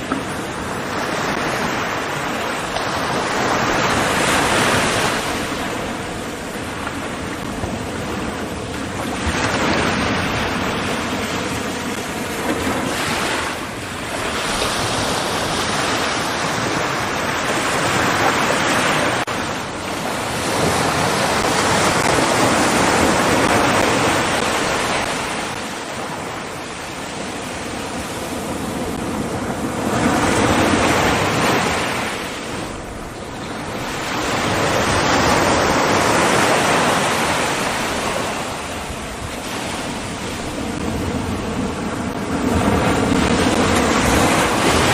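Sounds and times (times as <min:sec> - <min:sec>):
ocean waves breaking: 0:00.0 - 0:44.9.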